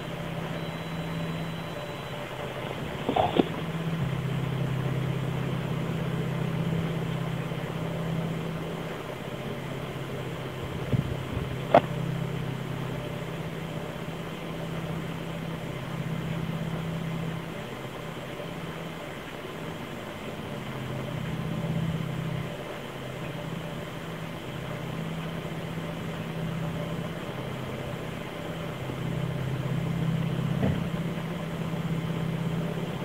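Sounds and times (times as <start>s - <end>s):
low droning hum: 0.0s - 33.0s.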